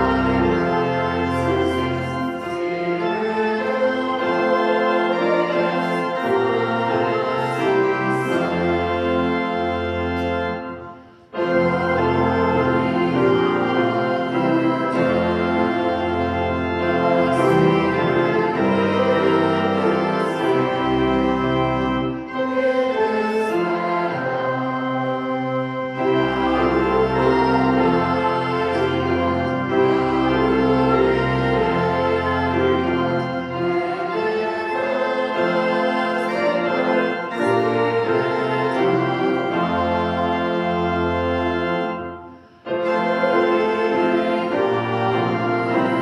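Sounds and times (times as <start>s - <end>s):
organ playing a hymn: 0.0s - 46.0s.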